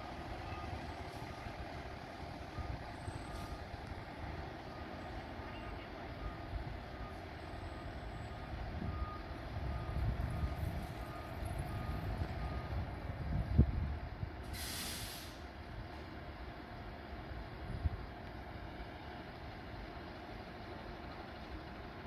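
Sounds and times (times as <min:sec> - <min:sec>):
truck engine rumble: 0:00.0 - 0:22.0.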